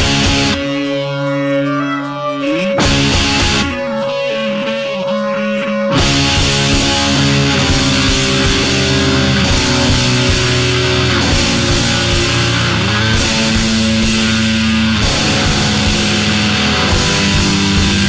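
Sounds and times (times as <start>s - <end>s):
rock band with electric guitars: 0.0s - 18.0s.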